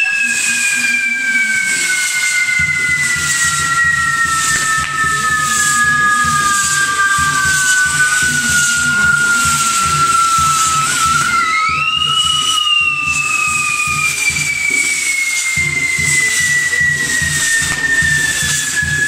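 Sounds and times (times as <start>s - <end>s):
whistling fireworks: 0.0s - 19.0s
hiss of spraying sparks: 1.6s - 19.0s.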